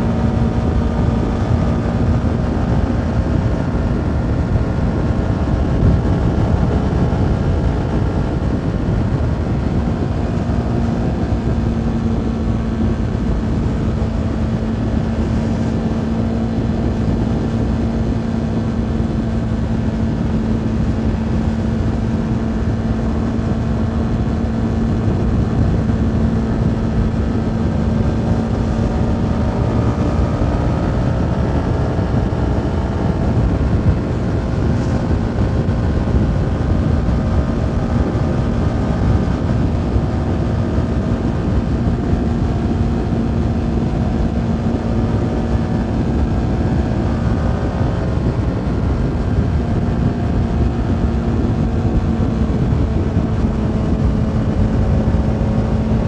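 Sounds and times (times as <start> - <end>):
motorcycle engine running: 0.0 - 56.0
wind rush: 0.0 - 56.0.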